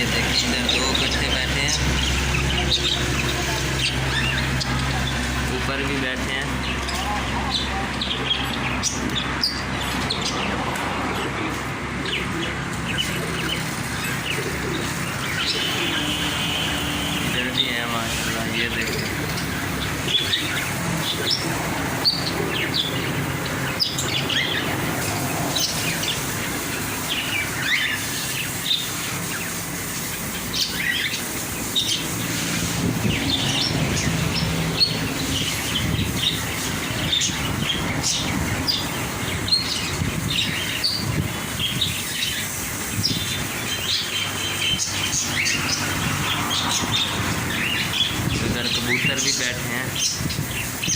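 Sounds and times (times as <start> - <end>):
caged birds chirping: 0.0 - 50.9.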